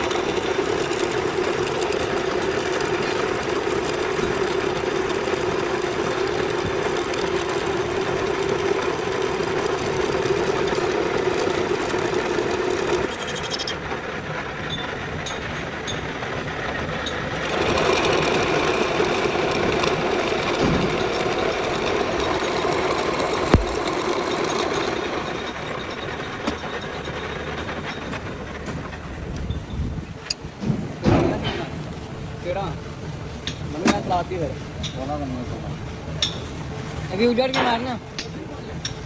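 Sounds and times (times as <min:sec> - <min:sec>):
lathe running: 0:00.0 - 0:39.0.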